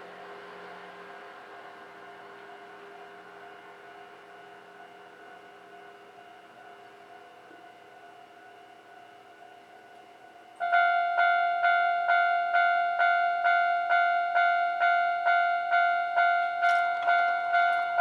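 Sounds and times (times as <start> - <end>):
level crossing warning bell: 1.7 - 18.0.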